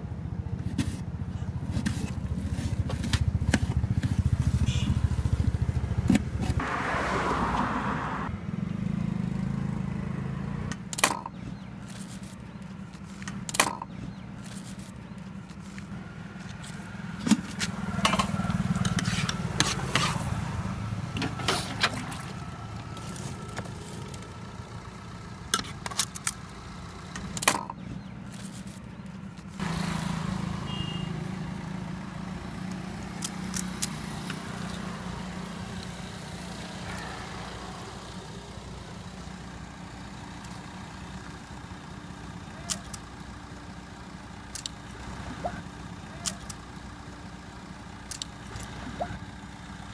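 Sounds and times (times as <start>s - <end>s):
vehicle engine running: 0.0s - 49.9s.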